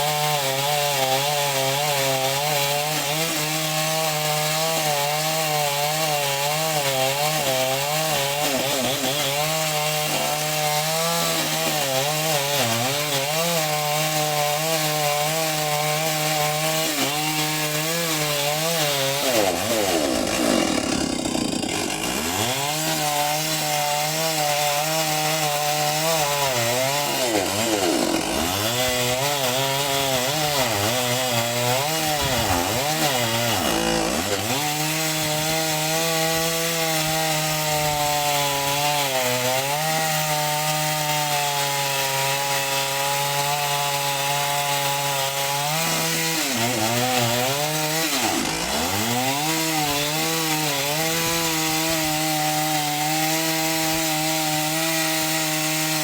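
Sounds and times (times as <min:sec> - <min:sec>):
chainsaw running at high revs: 0:00.0 - 0:56.0.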